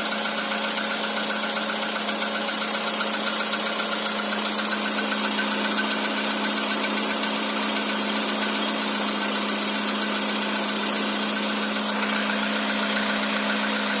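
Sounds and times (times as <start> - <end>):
car engine idling: 0.0 - 14.0
rapid engine knock: 0.0 - 14.0.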